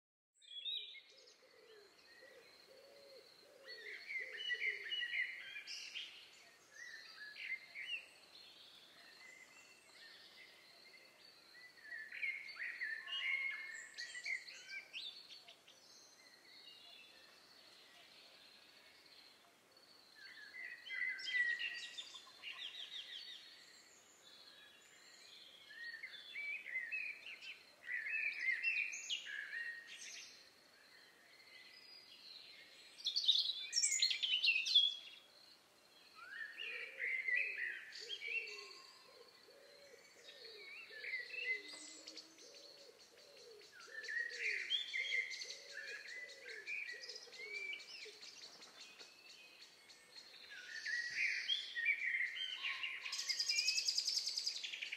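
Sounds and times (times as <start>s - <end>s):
songbirds singing: 0.4s - 54.9s.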